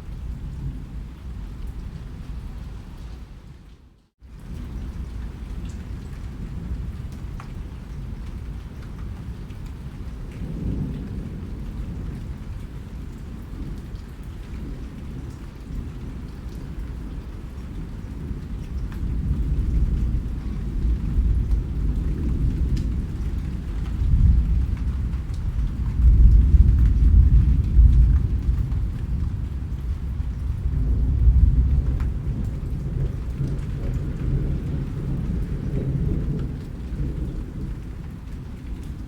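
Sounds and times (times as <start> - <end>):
low rumble of thunder: 0.0 - 39.0
rain falling: 0.0 - 39.0.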